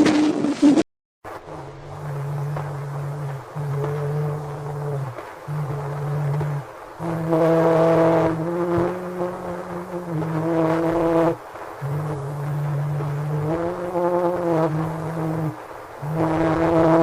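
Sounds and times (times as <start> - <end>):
sustained low tone: 1.5 - 11.1, 11.8 - 16.7.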